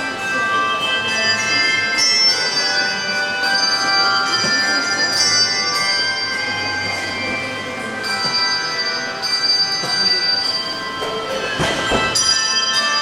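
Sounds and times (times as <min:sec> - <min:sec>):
bell choir playing: 0:00.0 - 0:13.0.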